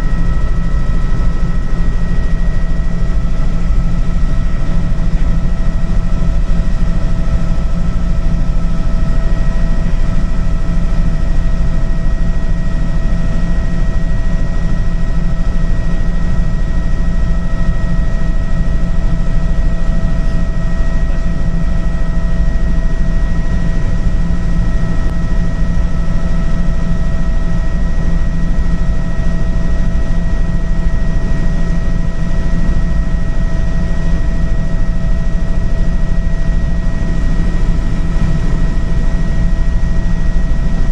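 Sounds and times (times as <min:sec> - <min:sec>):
helicopter turbine and rotor: 0:00.0 - 0:40.9.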